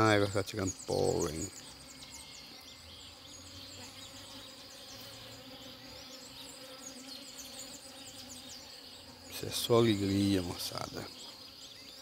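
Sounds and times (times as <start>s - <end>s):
bees buzzing: 0.0s - 12.0s
faint high chirping: 0.4s - 12.0s.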